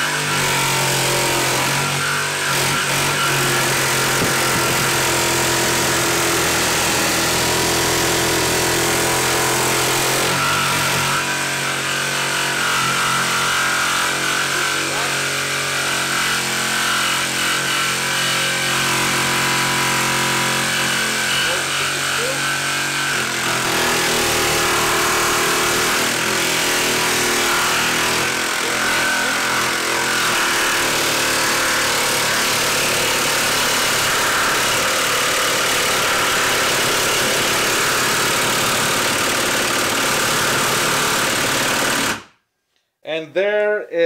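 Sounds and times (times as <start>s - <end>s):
jigsaw cutting wood: 0.0s - 42.4s.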